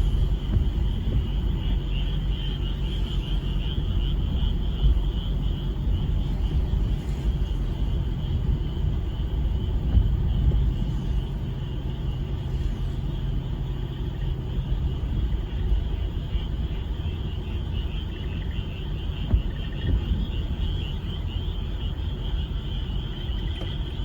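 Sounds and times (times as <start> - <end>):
frogs trilling: 0.0 - 24.0
steady low rumble: 0.0 - 24.0.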